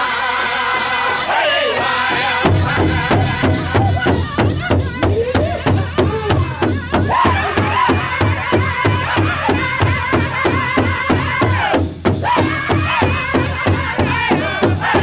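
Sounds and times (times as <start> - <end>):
group of voices singing: 0.0 - 15.0
big drum beaten steadily: 2.1 - 15.0.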